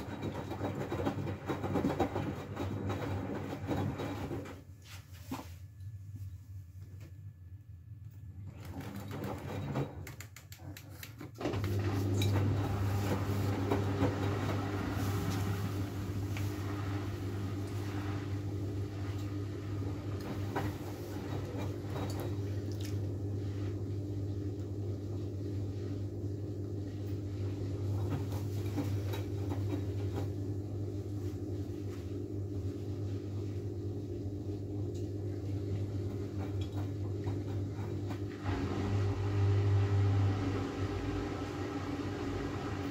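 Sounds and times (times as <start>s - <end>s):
washing machine drain pump humming: 0.0s - 42.9s.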